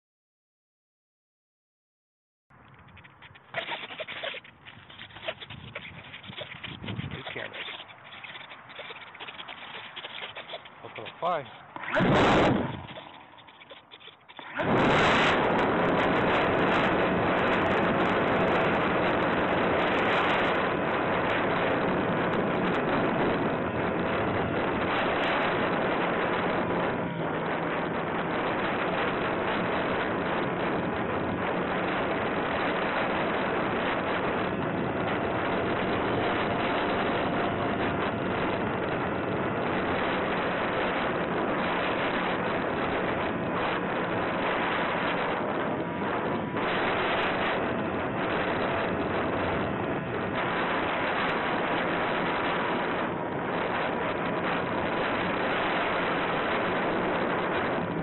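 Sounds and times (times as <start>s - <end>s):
faint steady whine: 2.5s - 58.0s
wind rushing over microphone: 2.5s - 58.0s
electric motor and propeller: 2.6s - 58.0s.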